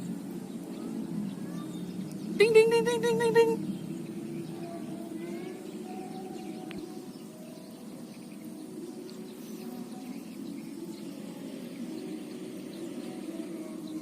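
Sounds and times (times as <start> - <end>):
faint bird chirps: 0.0 - 14.0
outdoor background noise: 0.0 - 14.0.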